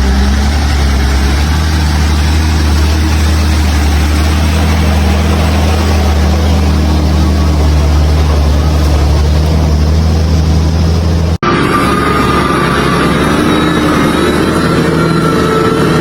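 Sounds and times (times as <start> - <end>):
engine with high whine: 0.0 - 16.0
truck diesel engine droning: 0.0 - 16.0.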